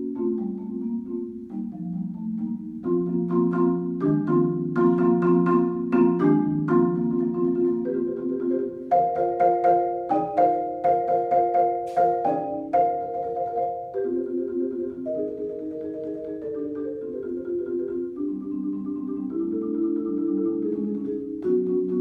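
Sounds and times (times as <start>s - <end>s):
marimba playing: 0.0s - 22.0s.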